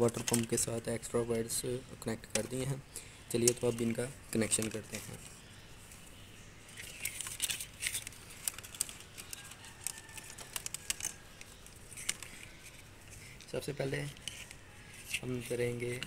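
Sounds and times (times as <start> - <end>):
wires rustling: 0.0 - 16.0.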